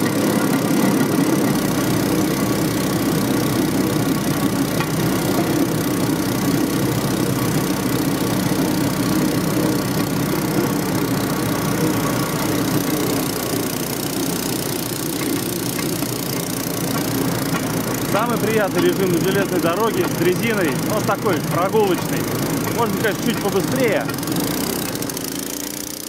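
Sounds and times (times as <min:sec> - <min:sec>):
rail cart engine running: 0:00.0 - 0:26.0.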